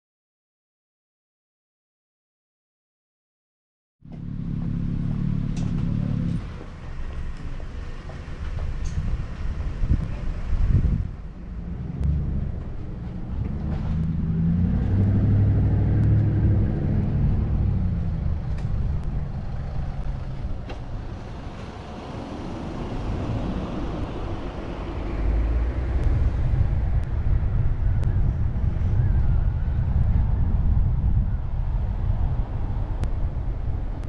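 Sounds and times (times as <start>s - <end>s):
road noise: 4.0s - 34.0s
car engine: 4.1s - 34.0s.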